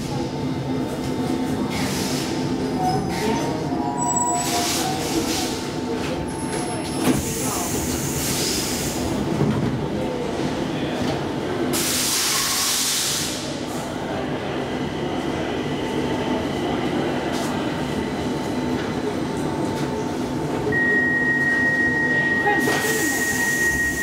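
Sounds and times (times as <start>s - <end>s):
train car hum: 0.0s - 24.0s.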